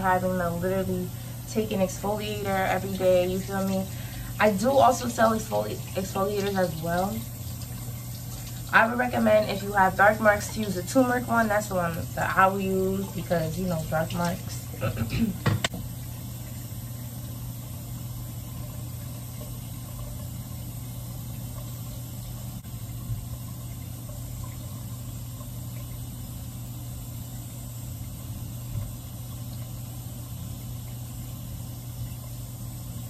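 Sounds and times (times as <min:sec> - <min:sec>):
exhaust fan humming: 0:00.0 - 0:33.0.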